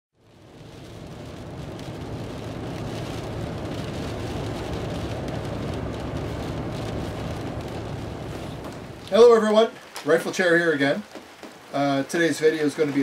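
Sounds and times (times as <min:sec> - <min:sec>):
car driving on wet road: 0:00.2 - 0:13.0.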